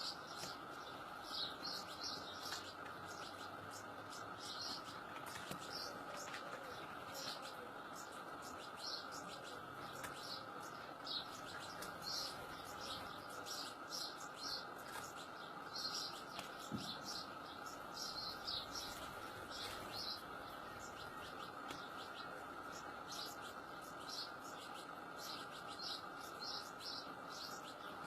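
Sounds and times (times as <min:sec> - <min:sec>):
goldfinch chirping: 0:00.0 - 0:28.0
steady background hiss: 0:00.0 - 0:28.0.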